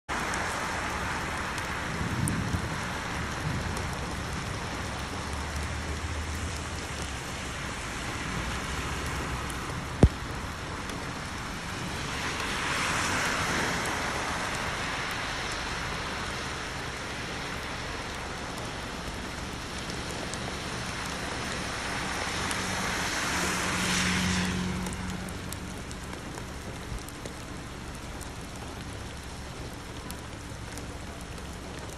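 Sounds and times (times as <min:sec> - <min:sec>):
steady rain falling: 0:00.1 - 0:31.9.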